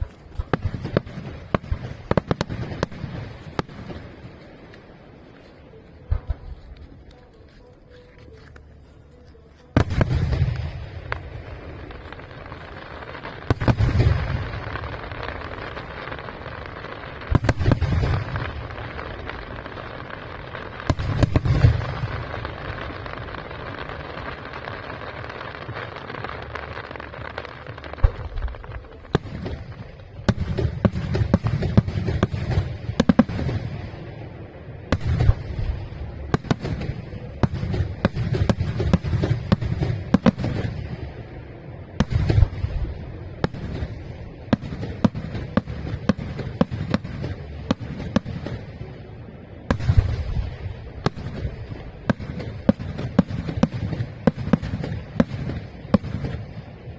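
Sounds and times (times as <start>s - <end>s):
fireworks crackling: 0.0s - 56.9s.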